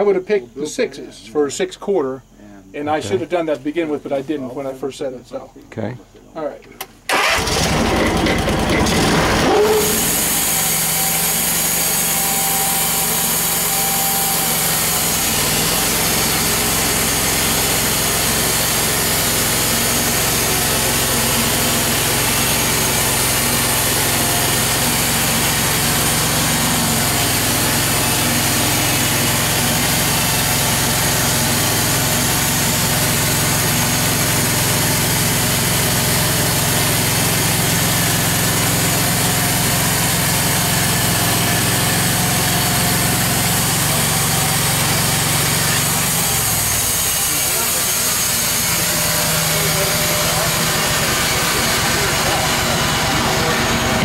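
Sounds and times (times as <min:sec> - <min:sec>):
sawmill engine running: 0:07.1 - 0:54.0.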